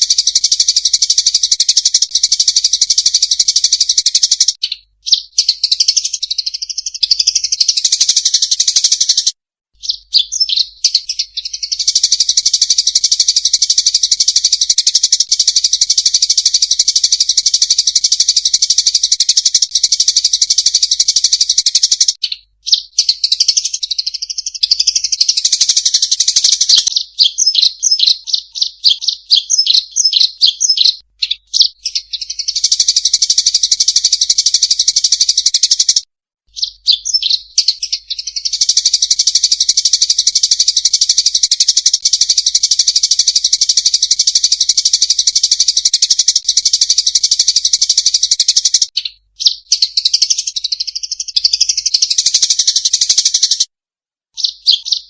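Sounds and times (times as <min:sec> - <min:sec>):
sparrows chattering: 0:00.0 - 0:53.7, 0:54.4 - 0:55.0.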